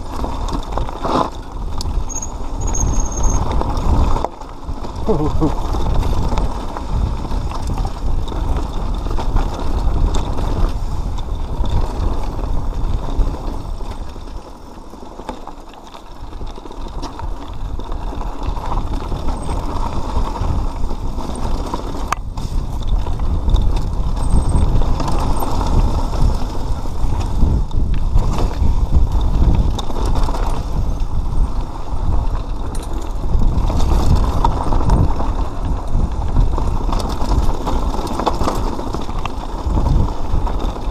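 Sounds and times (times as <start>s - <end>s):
bike rattling and knocking: 0.0s - 40.9s
bike tyres rumbling on gravel: 0.0s - 40.9s.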